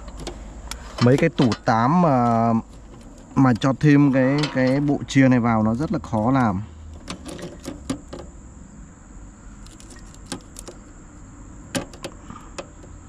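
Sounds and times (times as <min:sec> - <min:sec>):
cables and plastic connectors clicking: 0:00.0 - 0:08.3, 0:09.6 - 0:10.9, 0:11.7 - 0:13.0.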